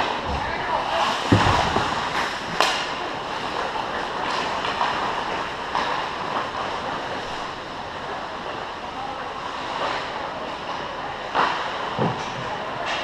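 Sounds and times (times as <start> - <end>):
rink noise and crowd: 0.0 - 13.0.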